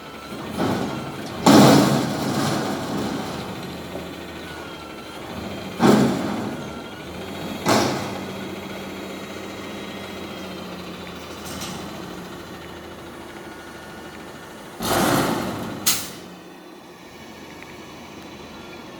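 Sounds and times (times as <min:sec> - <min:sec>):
metal dumpster banging: 0:00.0 - 0:16.5
garbage truck running: 0:00.0 - 0:18.9.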